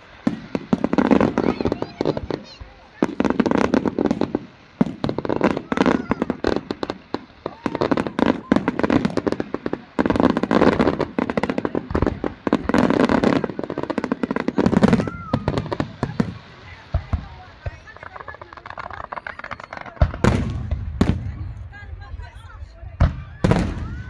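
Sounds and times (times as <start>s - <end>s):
fireworks bangs and crackling pops: 0.0s - 24.0s.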